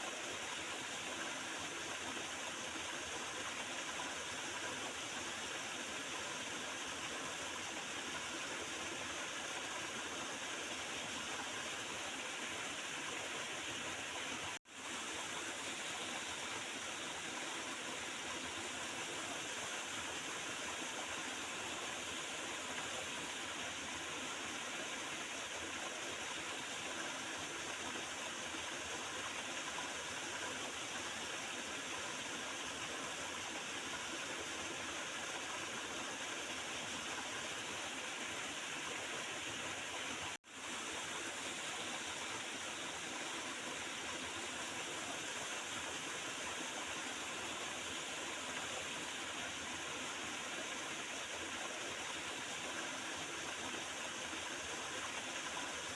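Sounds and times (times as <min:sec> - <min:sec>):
river gurgling over stones: 0:00.0 - 0:55.9.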